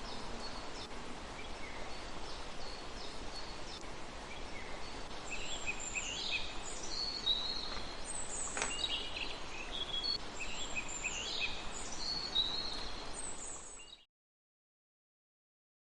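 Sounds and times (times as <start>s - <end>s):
steady outdoor hiss: 0.0s - 14.0s
songbird chirping and trilling: 0.0s - 14.1s.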